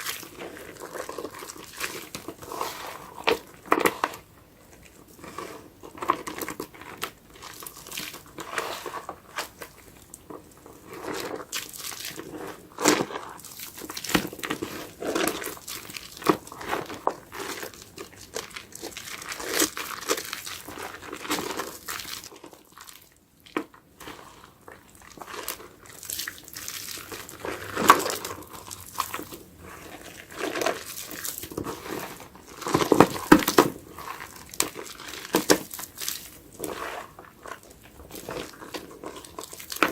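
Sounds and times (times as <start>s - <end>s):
soapy sponge squelching: 0.0s - 39.9s.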